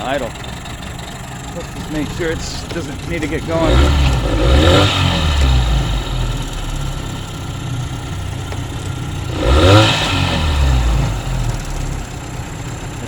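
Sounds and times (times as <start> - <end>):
outboard motor idling and revving: 0.0 - 13.0.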